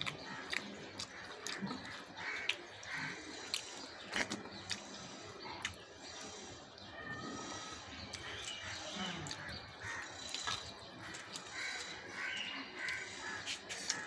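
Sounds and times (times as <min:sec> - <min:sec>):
wet chewing: 0:00.0 - 0:06.8, 0:08.0 - 0:14.0.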